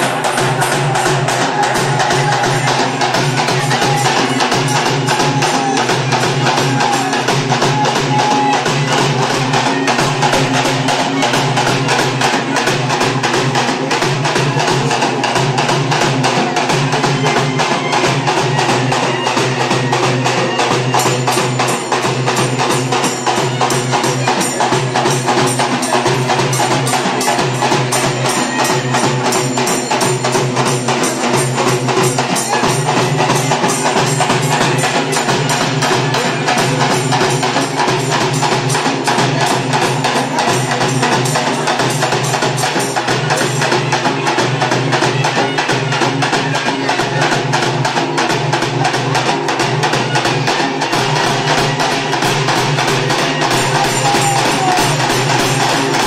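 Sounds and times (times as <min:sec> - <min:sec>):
fast steady drumming: 0:00.0 - 0:56.0.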